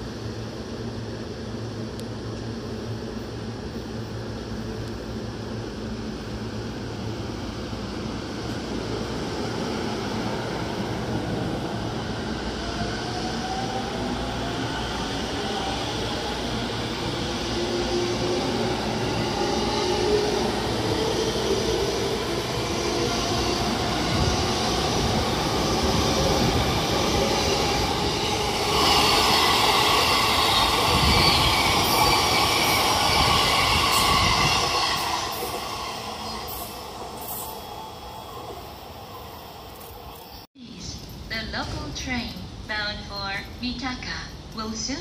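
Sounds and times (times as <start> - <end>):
train wheels on rails: 6.2 - 42.7.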